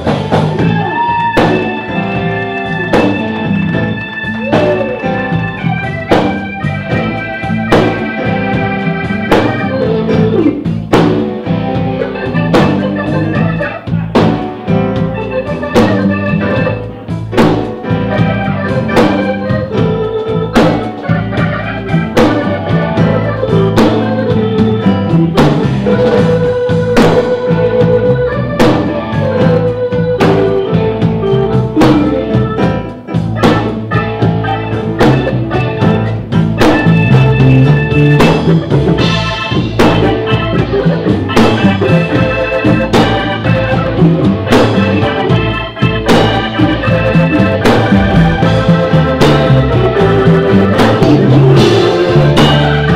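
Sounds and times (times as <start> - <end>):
drum hits: 0.0 - 52.9
electric bass: 0.0 - 52.9
organ-toned keyboard chords: 0.0 - 52.9.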